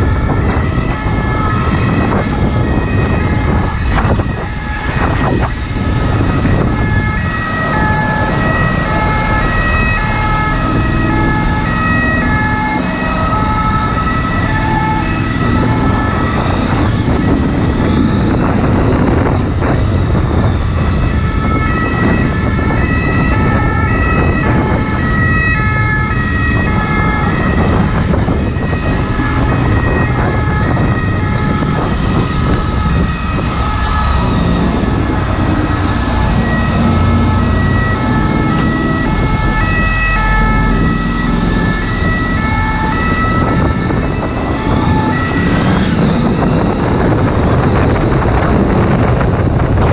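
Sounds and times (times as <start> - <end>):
ambulance two-tone siren: 0.0 - 49.9
motorcycle noise: 0.0 - 49.9
wind rushing: 0.0 - 49.9.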